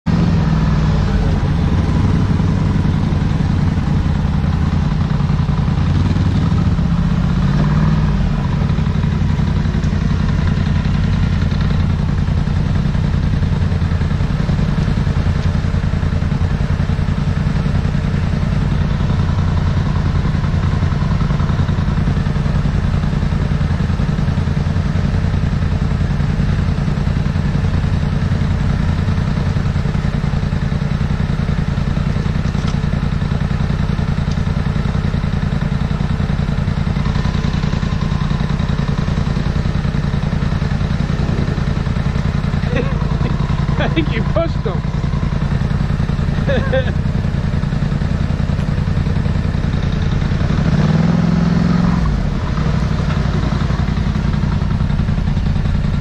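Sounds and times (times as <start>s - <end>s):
engine revving and idling: 0.0s - 56.0s.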